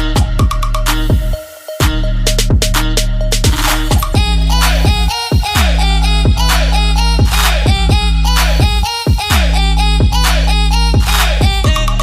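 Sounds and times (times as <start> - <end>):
electronic pop music with bass: 0.0 - 12.0.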